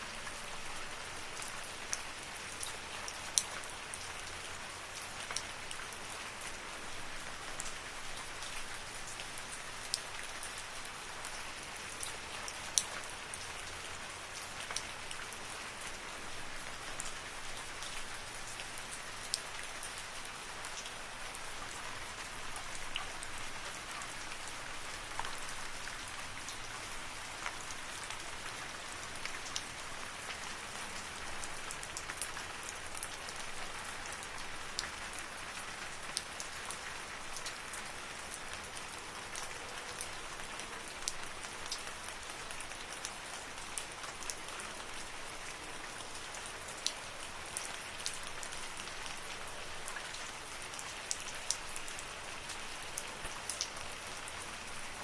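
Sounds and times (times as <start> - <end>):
steady rain in forest: 0.0 - 55.0.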